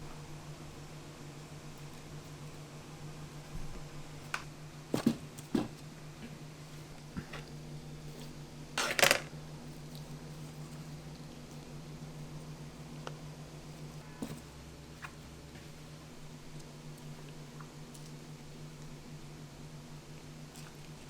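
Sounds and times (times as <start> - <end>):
low ventilation hum: 0.0 - 21.0.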